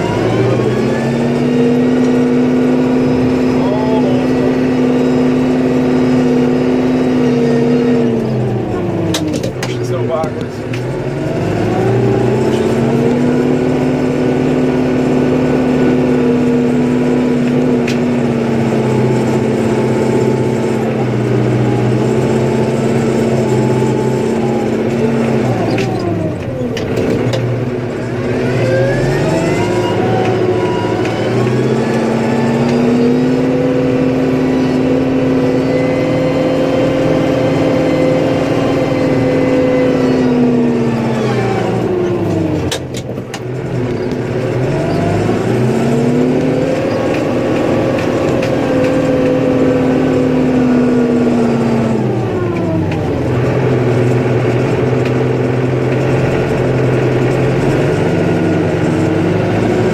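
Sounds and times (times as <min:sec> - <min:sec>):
snowplow engine revving: 0:00.0 - 0:59.9.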